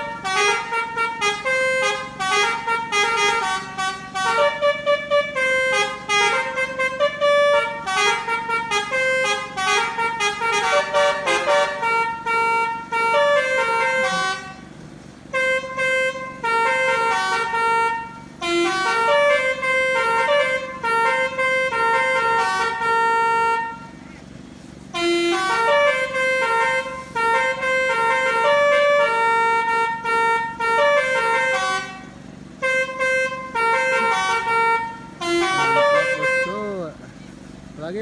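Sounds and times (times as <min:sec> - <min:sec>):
musical air horn playing a tune: 0:00.0 - 0:24.2, 0:24.8 - 0:37.1.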